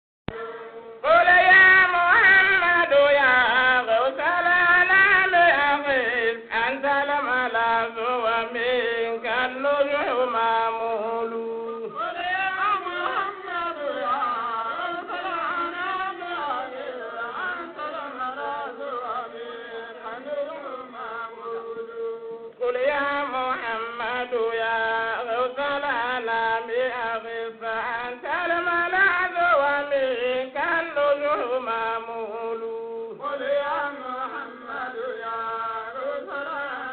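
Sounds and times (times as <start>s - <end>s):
person chanting a slow melody: 0.3s - 36.9s.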